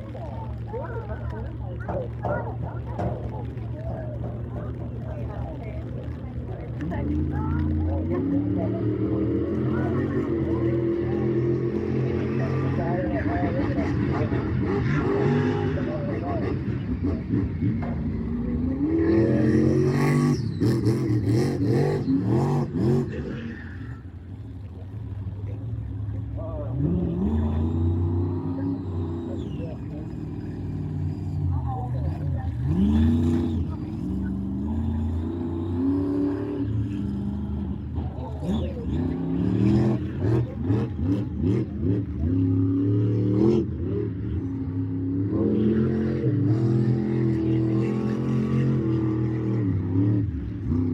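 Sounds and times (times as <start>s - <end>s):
monster truck engine revving: 0.0s - 50.9s.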